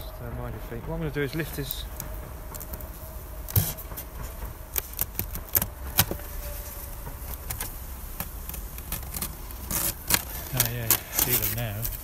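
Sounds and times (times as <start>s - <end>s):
hive cover knocking: 0.6s - 12.0s.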